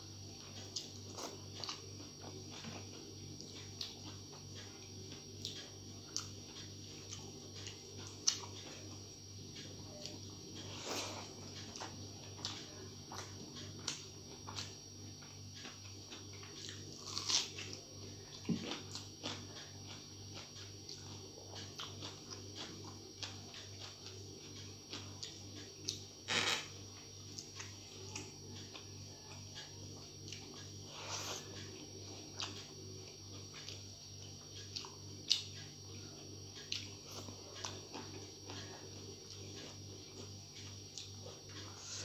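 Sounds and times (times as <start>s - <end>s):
steady low hum: 0.0s - 42.0s
person chewing with wet smacks: 0.4s - 42.0s.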